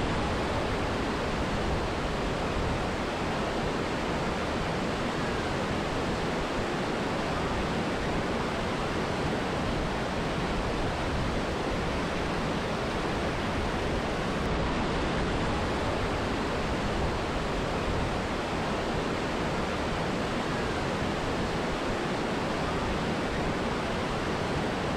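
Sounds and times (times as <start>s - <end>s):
river and waterfall roaring: 0.0s - 24.9s.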